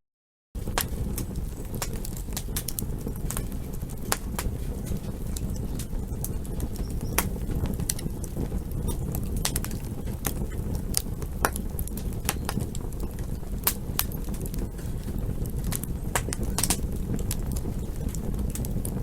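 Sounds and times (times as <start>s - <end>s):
campfire crackling and popping: 0.6s - 19.0s.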